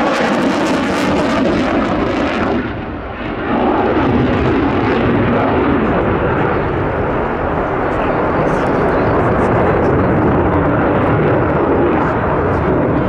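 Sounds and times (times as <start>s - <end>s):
fighter jet engine noise: 0.0s - 13.0s.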